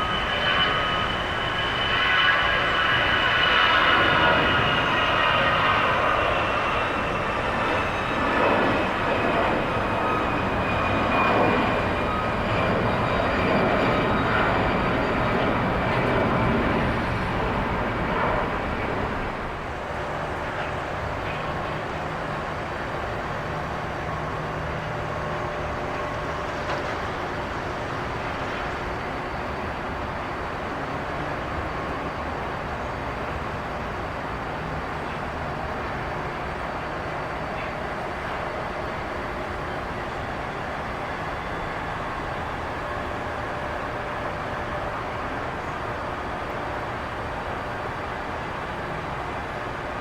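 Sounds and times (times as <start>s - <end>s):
jet airliner engines running: 0.0s - 50.0s.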